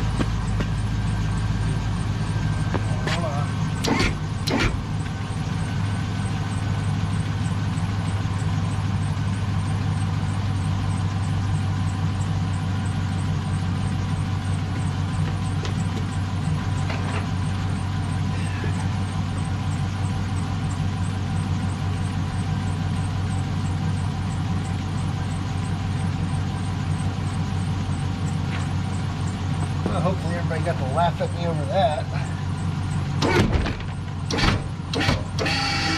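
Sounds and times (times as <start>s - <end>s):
pickup engine idling: 0.0s - 35.9s.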